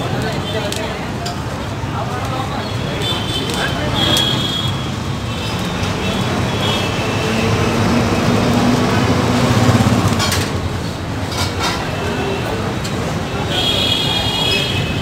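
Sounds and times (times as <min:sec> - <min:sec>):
street traffic rumbling: 0:00.0 - 0:15.0.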